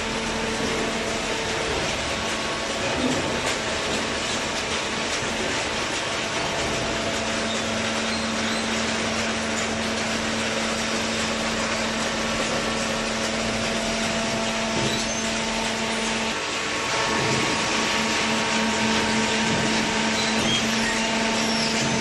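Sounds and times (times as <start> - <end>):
baler machine running: 0.0 - 22.0.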